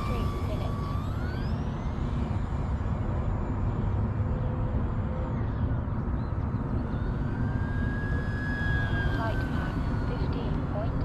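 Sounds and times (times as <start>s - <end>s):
model plane motor whine: 0.0s - 11.0s
steady low rumble: 0.0s - 11.0s.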